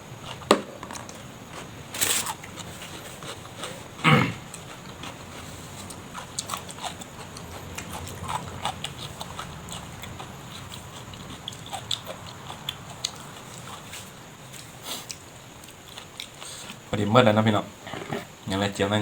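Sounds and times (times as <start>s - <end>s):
person chewing and mouth smacking: 1.2s - 16.9s.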